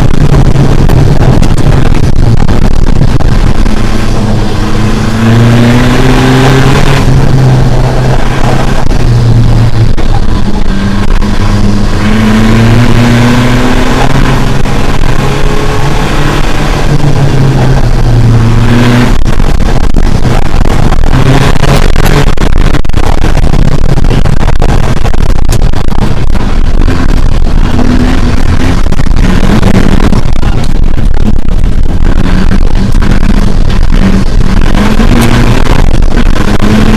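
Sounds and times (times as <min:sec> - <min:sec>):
rally car engine pulling hard: 0:00.0 - 0:36.9.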